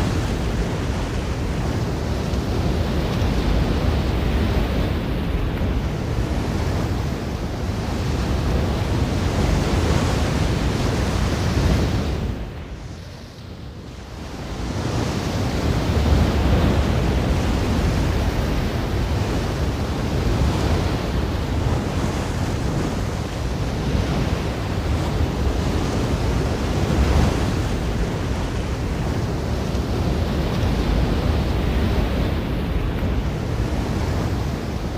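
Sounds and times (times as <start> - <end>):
sea waves washing in: 0.0 - 34.9.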